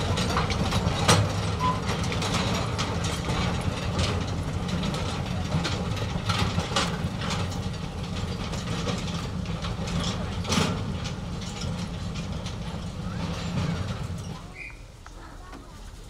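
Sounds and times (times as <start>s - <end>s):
low locomotive engine drone: 0.0s - 16.0s
wagons rattling and clanking on rails: 0.0s - 16.0s.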